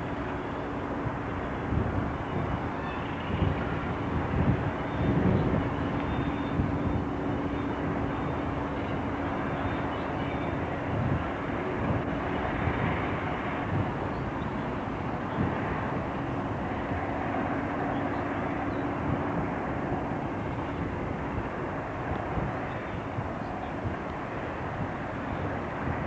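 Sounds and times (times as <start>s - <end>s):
distant diesel locomotives droning: 0.0s - 26.0s.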